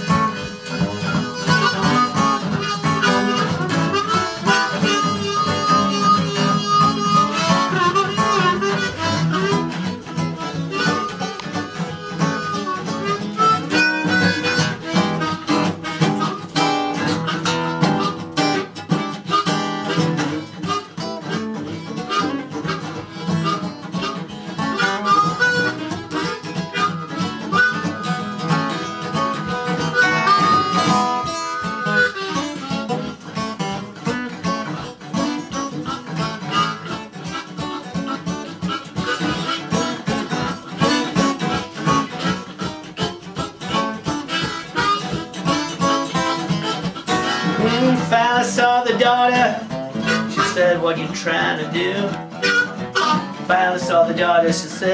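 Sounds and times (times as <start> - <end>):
harmonica playing blues: 0.0 - 54.9
strummed acoustic guitar: 0.0 - 54.9.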